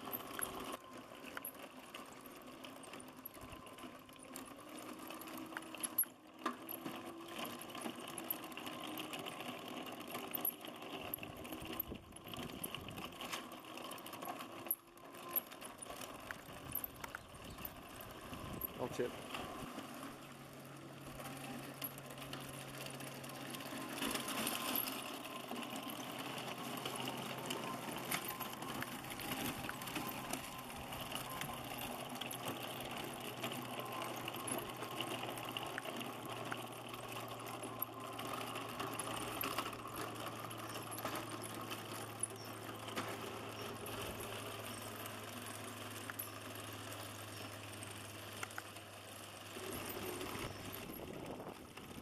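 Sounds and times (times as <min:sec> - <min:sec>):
electric motors whining: 0:00.0 - 0:52.0
tracks crunching over gravel: 0:06.9 - 0:52.0.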